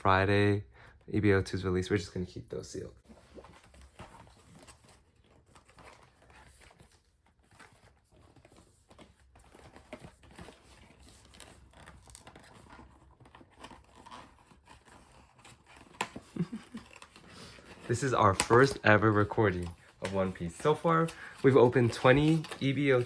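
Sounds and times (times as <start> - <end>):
card packaging crinkling: 3.0 - 23.0.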